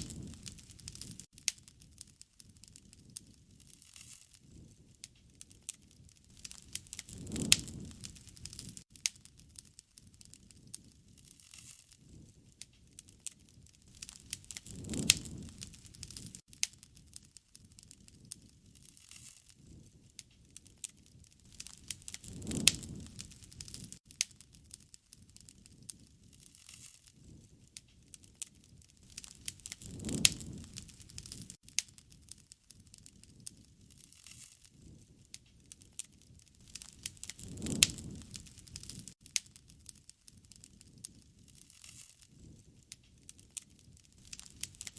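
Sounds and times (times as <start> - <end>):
low flame rumble: 0.0 - 34.1, 34.7 - 44.9
wood fire crackling: 0.0 - 44.9.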